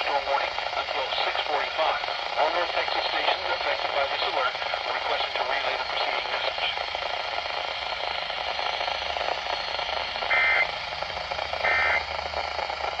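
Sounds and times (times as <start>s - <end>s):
buzzy data bursts: 0.0s - 13.0s
radio broadcast hiss: 0.0s - 13.0s.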